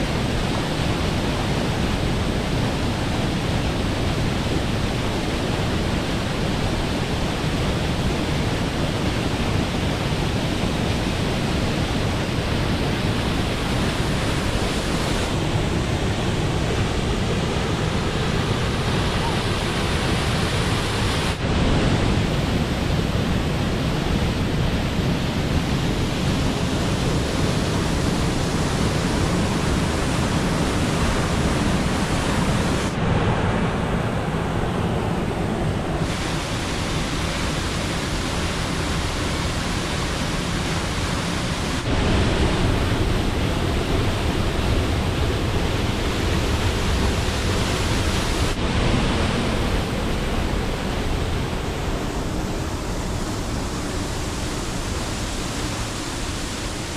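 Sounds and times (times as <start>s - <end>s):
waterfall rushing water: 0.0s - 56.9s.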